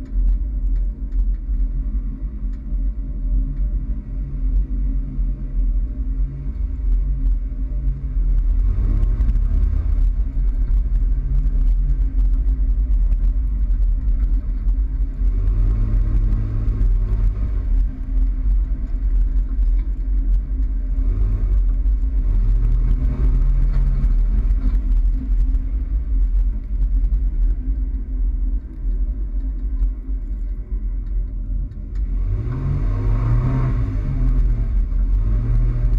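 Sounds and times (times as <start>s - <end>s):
pickup truck engine rumble: 0.0s - 35.9s
road noise: 0.0s - 35.9s.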